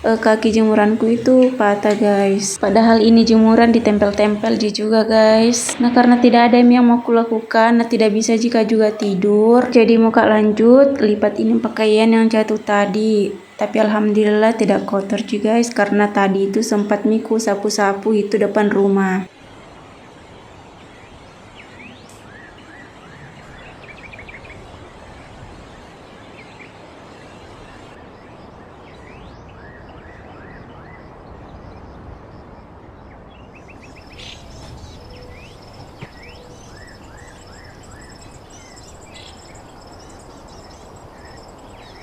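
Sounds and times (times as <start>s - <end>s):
small birds chirping: 0.0s - 19.3s, 20.6s - 42.0s
high insect trill: 0.0s - 42.0s
outdoor background noise: 0.0s - 42.0s.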